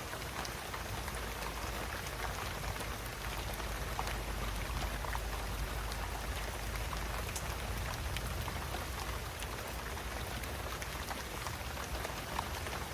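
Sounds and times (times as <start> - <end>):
raindrops striking close by: 0.0 - 12.9
steady rain falling: 0.0 - 12.9.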